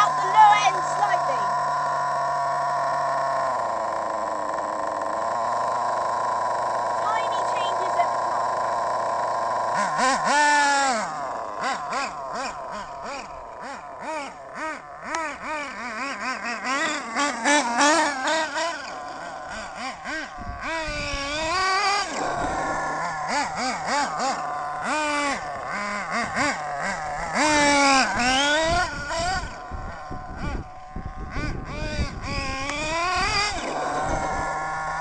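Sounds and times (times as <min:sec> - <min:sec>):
model engine revving: 0:00.0 - 0:35.0.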